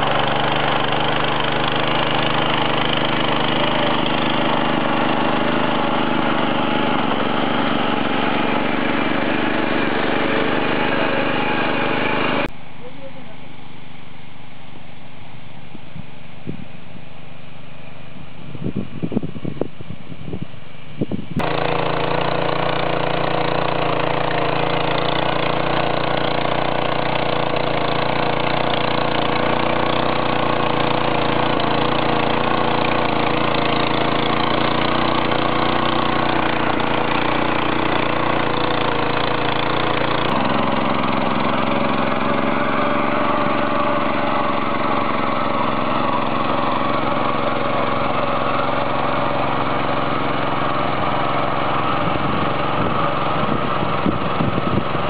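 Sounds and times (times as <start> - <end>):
power tiller engine running: 0.0 - 13.1, 21.4 - 55.0.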